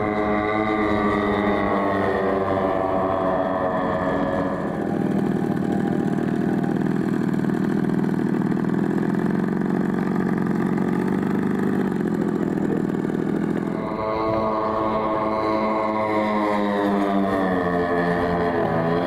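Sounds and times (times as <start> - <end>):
model plane droning overhead: 0.0 - 19.0
model plane engine running: 0.0 - 19.0.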